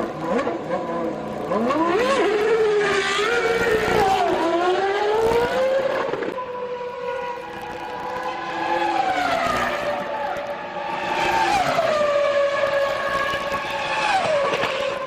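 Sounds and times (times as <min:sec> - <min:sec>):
racing car engines high revs: 0:00.0 - 0:15.0.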